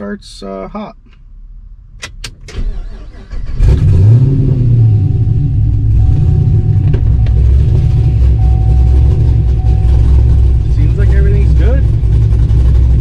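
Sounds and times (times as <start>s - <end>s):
car engine starting and idling: 1.0s - 13.0s.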